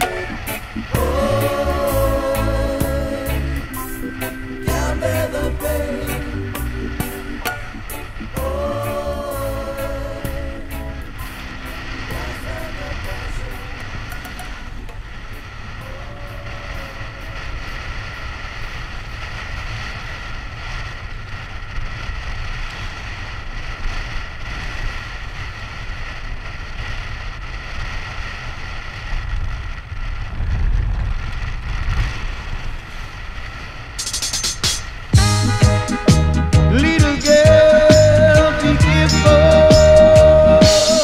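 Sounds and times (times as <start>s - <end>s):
wind buffeting microphone: 0.0s - 35.4s
faint steady whine: 0.0s - 41.0s.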